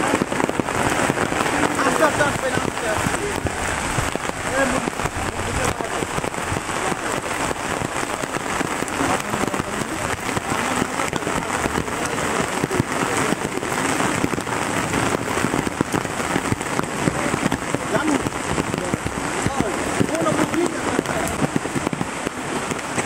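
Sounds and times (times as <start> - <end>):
rain falling on floodwater: 0.0 - 23.0.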